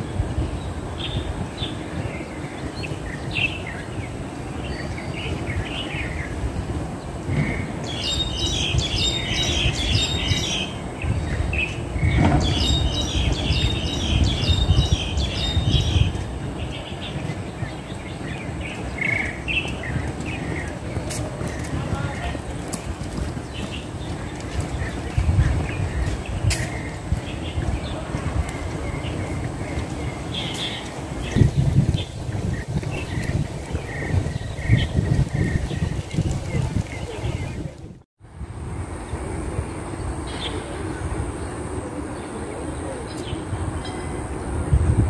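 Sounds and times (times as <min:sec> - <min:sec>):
birds chattering rapidly: 0:00.0 - 0:37.9
birds chirping: 0:00.0 - 0:38.0.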